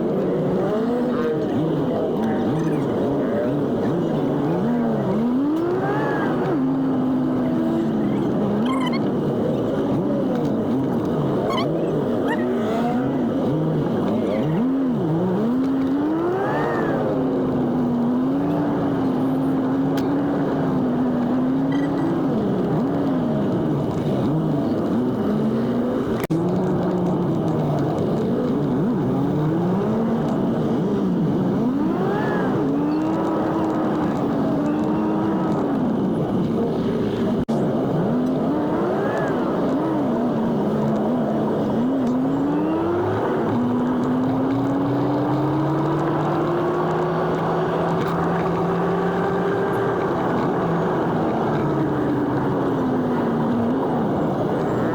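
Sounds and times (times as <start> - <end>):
sped-up engine revving: 0.0 - 54.9.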